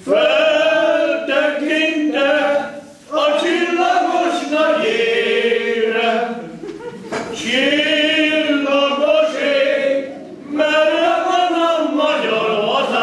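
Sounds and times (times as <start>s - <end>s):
men singing unaccompanied: 0.0s - 6.6s, 7.3s - 13.0s.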